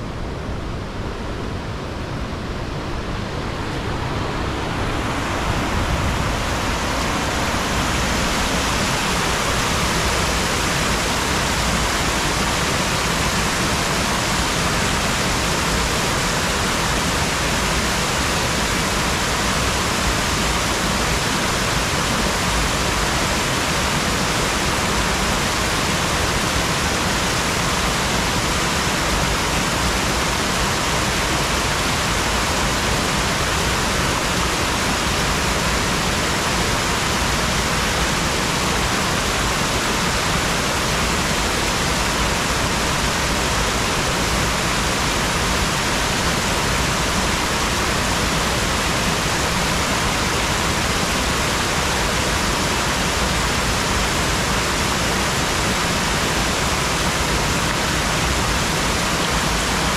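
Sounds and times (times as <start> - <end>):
water rushing over waterfall: 0.0 - 59.9.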